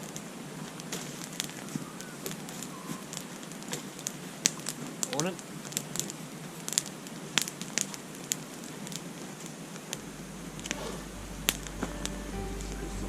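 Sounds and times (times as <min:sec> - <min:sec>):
crackles and pops: 0:00.0 - 0:12.7.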